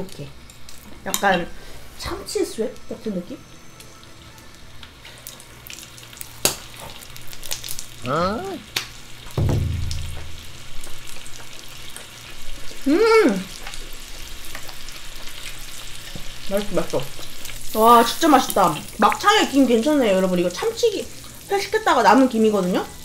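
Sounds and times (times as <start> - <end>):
meat sizzling on grill: 0.0 - 23.0.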